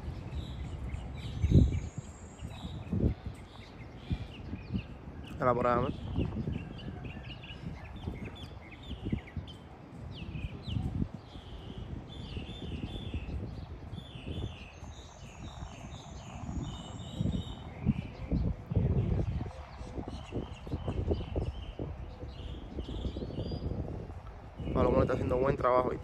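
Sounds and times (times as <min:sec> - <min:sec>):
low rumble on microphone: 0:00.0 - 0:26.0
songbirds chirping: 0:00.0 - 0:26.0.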